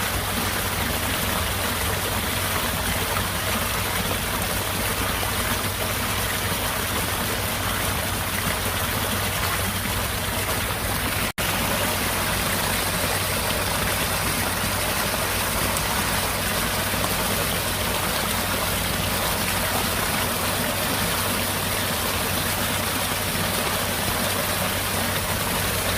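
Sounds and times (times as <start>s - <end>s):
rainfall: 0.0s - 25.9s
running water: 0.0s - 25.9s.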